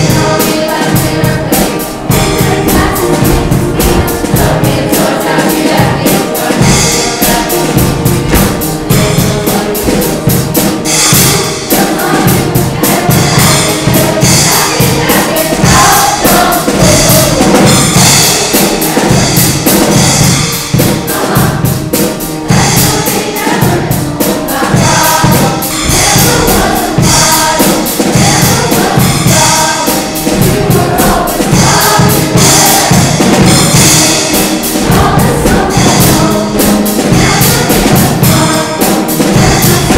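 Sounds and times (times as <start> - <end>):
backing band with drums: 0.0 - 39.9
choir singing: 0.0 - 39.9.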